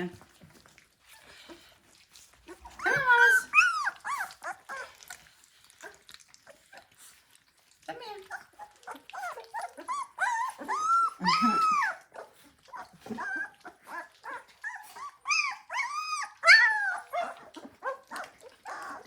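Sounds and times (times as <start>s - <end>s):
puppies whining and squealing: 0.5s - 19.0s.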